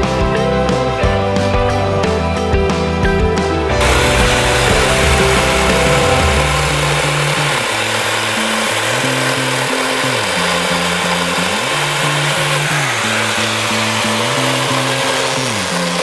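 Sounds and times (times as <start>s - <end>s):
music with gliding bass line: 0.0s - 16.0s
steady mechanical noise: 0.0s - 16.0s.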